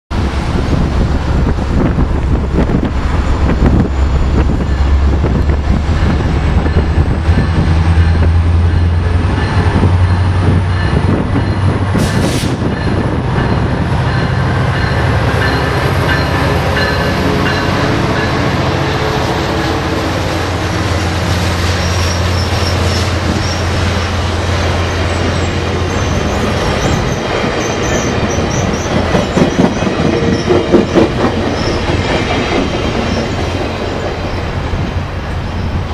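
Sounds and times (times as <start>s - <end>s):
train coaches rolling past: 0.1s - 35.9s
locomotive engine droning: 0.2s - 35.9s
wheel clatter on rail joints: 0.7s - 35.9s.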